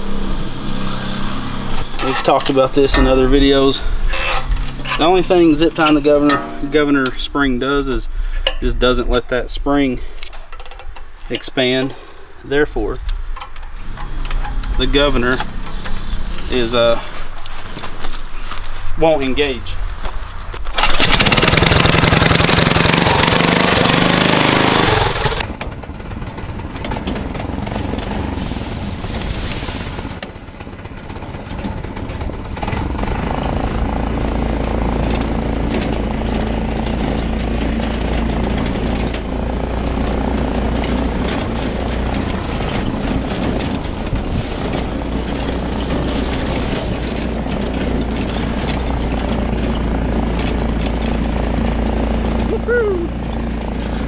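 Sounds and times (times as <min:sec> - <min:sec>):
go-kart engine running: 0:00.0 - 0:08.9, 0:13.6 - 0:18.3, 0:20.5 - 0:28.4, 0:30.2 - 0:54.0.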